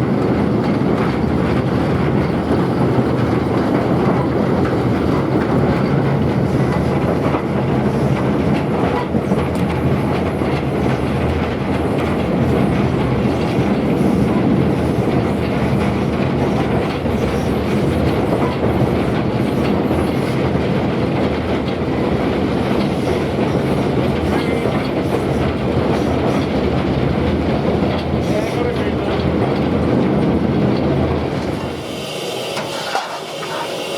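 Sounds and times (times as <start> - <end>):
train wheels on rails: 0.0 - 33.9.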